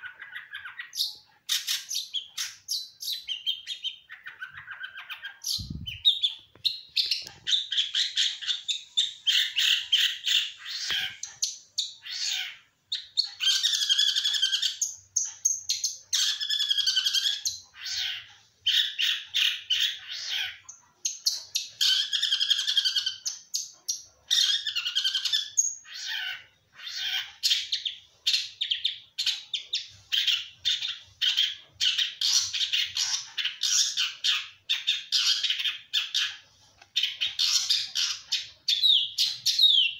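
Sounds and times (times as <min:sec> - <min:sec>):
songbird singing chattering phrases: 0:00.0 - 0:39.9.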